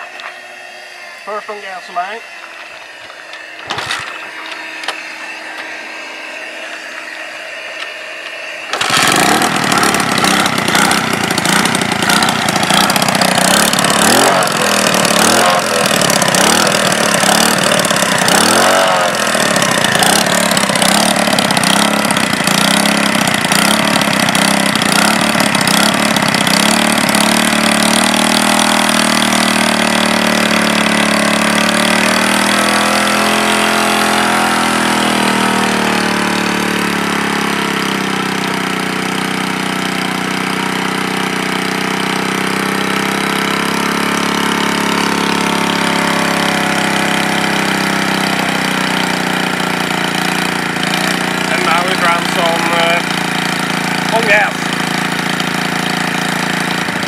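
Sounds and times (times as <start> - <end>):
moped engine revving: 0.0 - 57.0
steady whir: 0.0 - 57.0.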